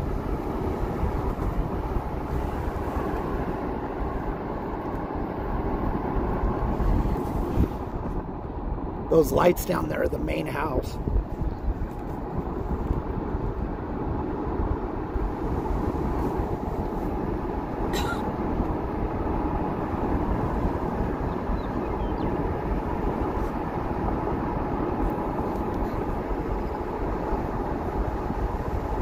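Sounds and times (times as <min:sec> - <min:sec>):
car road noise: 0:00.0 - 0:29.0.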